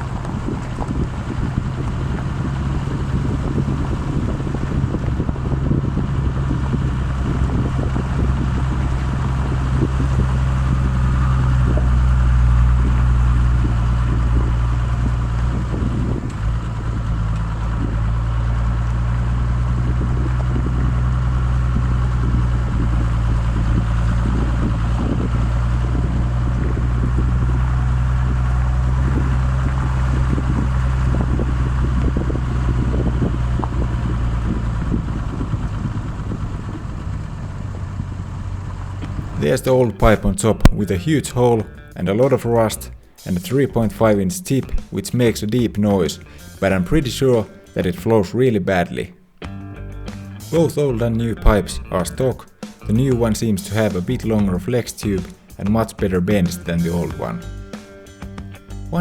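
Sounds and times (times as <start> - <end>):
diesel engine exhaust running: 0.0 - 59.0.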